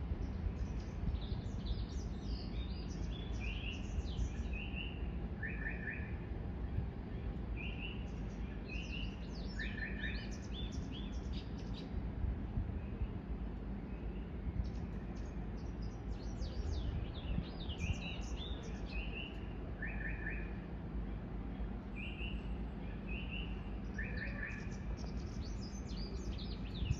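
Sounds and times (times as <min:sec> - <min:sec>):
low background rumble: 0:00.0 - 0:19.7, 0:20.6 - 0:26.9
small birds chirping: 0:00.1 - 0:06.0, 0:07.6 - 0:12.0, 0:13.9 - 0:26.9.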